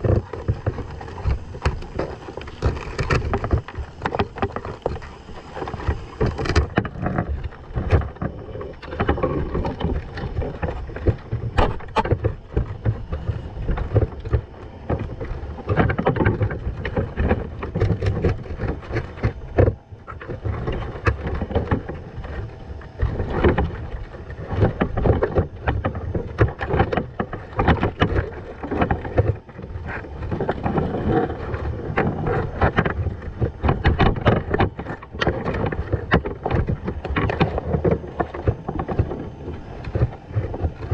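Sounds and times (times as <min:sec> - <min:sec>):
muffled underwater rumble: 0:00.0 - 0:40.9
sharp clicks and knocks: 0:00.0 - 0:40.9.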